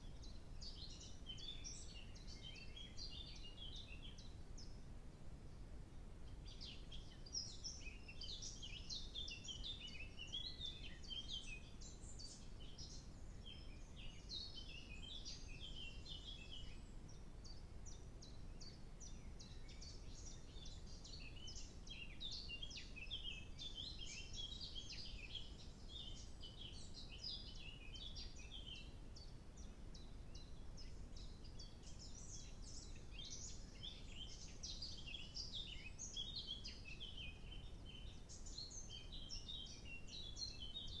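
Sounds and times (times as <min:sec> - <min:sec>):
birds chirping and trilling: 0:00.0 - 0:04.8, 0:06.2 - 0:41.0
faint low hiss: 0:00.0 - 0:41.0.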